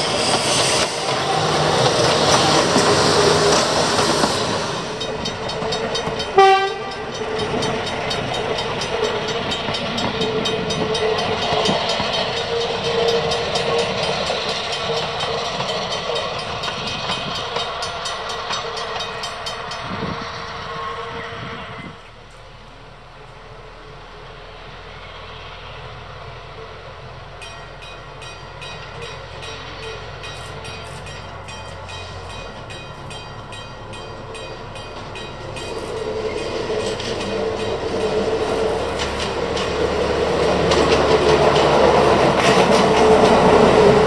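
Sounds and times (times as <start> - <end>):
railcar running noise: 0.0 - 44.0
tram rumbling past: 0.0 - 44.0.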